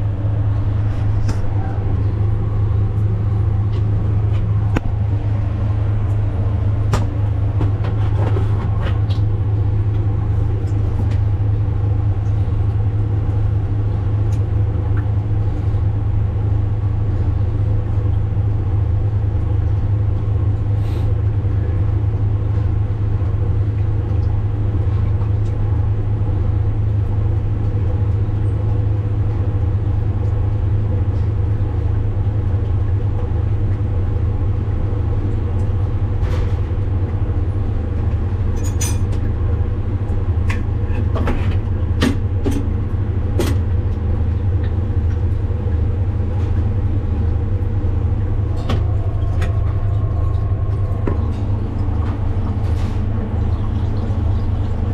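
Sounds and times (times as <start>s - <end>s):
loud low machine hum: 0.0s - 54.9s.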